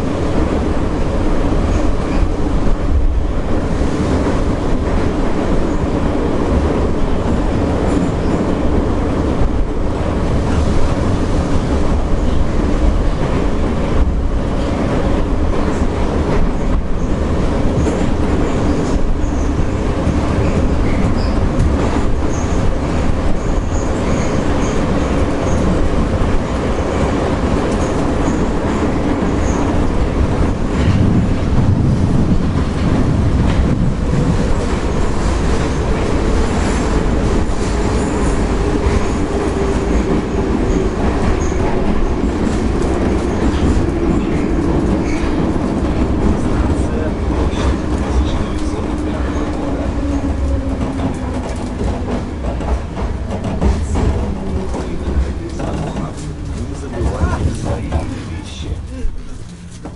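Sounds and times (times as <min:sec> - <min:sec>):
metro train rumble: 0:00.0 - 0:59.9.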